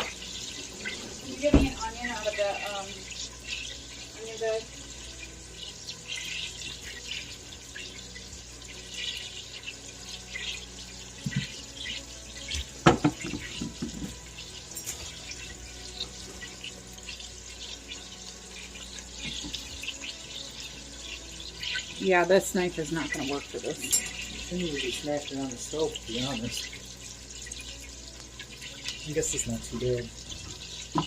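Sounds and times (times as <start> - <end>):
faucet running into sink: 0.0 - 31.0.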